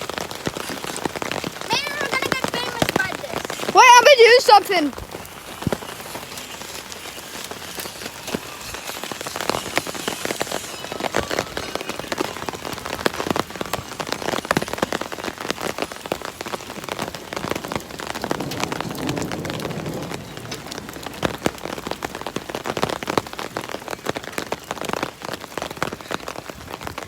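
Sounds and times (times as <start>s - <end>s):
hail and rain pelting: 0.0s - 27.0s.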